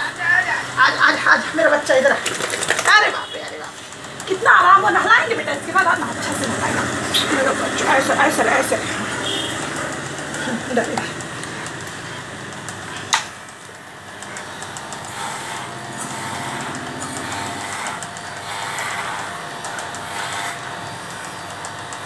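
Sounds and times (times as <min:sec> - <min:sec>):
electric hair clippers buzzing: 0:00.0 - 0:22.0.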